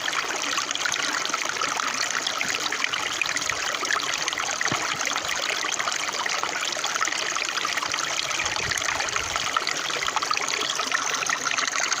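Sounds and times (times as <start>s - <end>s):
stream of running water: 0.0s - 12.0s.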